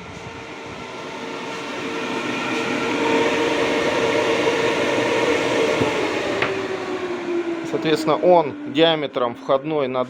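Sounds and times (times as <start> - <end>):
extraction fan blowing air: 0.0 - 10.0
fan hum: 0.0 - 10.0.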